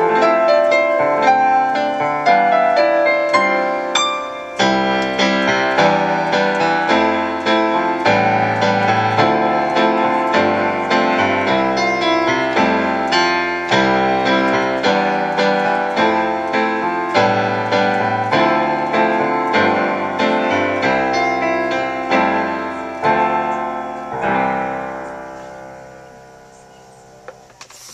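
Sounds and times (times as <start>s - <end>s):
piano chords: 0.0s - 27.6s.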